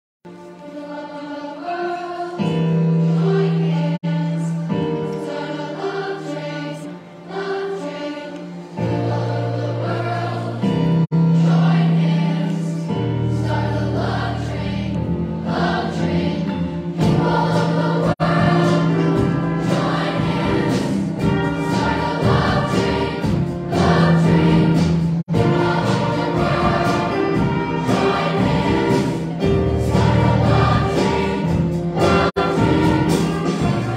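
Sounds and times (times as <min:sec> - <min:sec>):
choir singing: 0:00.3 - 0:33.9
string orchestra: 0:00.3 - 0:33.9.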